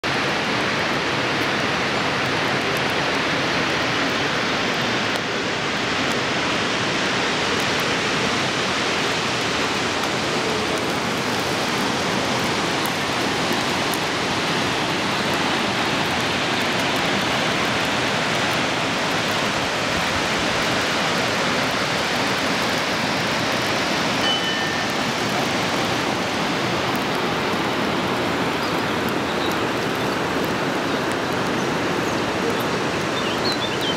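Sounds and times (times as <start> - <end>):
fast-flowing water rushing: 0.0 - 33.9.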